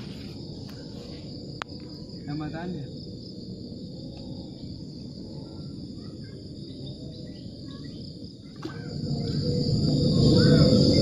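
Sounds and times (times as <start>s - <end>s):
insects droning: 0.0s - 11.0s
low rumbling background noise: 0.0s - 11.0s.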